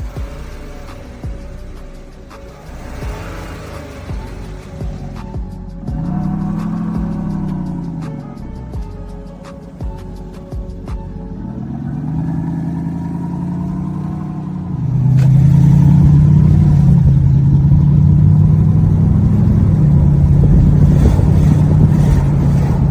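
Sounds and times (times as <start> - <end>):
synthetic exhaust rumble: 0.0 - 22.9.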